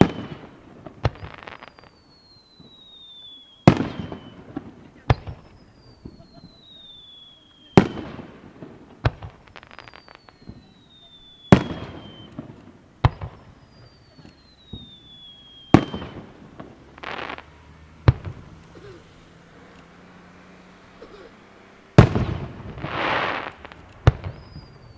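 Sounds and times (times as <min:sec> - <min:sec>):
falling firework whistle: 0:00.0 - 0:08.4, 0:09.1 - 0:24.9
firework crackle: 0:00.0 - 0:24.9
fireworks bangs: 0:00.0 - 0:24.9.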